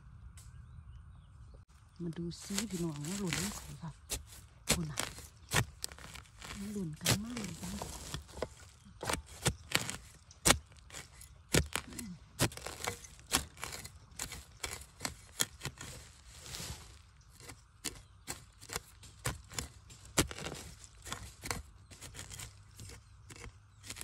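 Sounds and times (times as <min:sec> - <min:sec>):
knife chopping into soil: 0:02.5 - 0:24.0.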